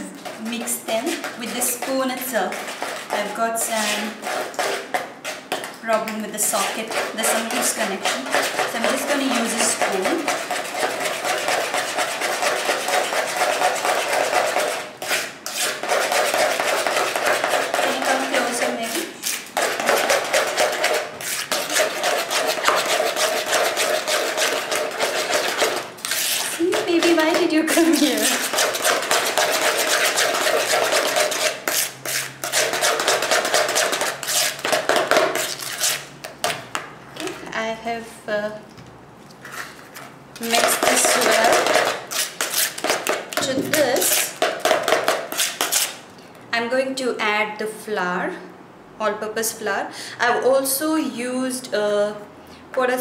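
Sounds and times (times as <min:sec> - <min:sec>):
spoon beating batter in plastic bowl: 0:00.0 - 0:37.4, 0:40.0 - 0:46.0.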